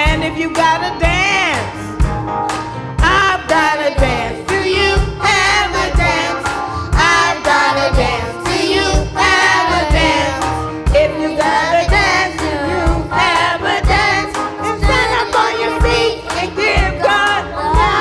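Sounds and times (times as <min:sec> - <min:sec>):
band playing: 0:00.0 - 0:18.0
youth choir singing gospel: 0:03.0 - 0:18.0.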